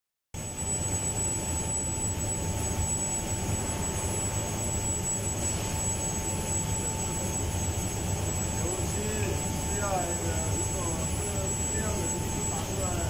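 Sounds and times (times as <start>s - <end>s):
thin high whine: 0.4s - 13.0s
spray booth mechanical rumble: 0.7s - 13.0s.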